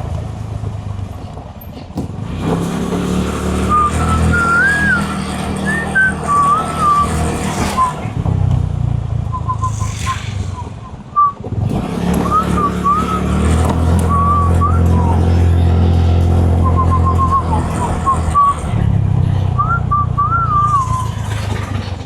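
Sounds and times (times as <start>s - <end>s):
road noise: 0.0s - 22.0s
vehicle engine rumble: 0.0s - 22.0s.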